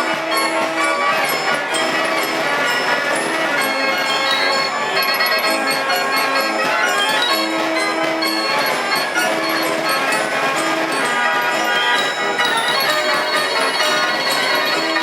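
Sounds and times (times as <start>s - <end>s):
fairground organ playing: 0.0s - 15.0s
bell-like chimes: 1.2s - 10.3s, 11.0s - 15.0s.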